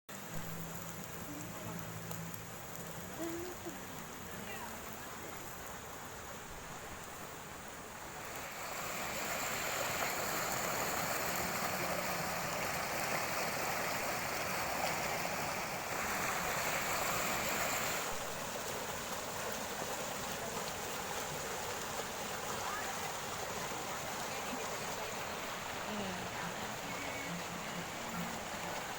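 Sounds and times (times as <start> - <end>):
water rushing over rocks: 0.1 - 28.9.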